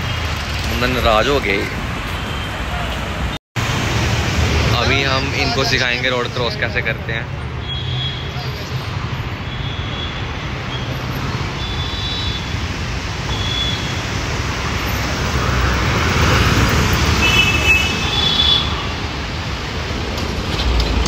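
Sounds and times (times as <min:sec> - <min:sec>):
city road traffic: 0:00.0 - 0:21.0.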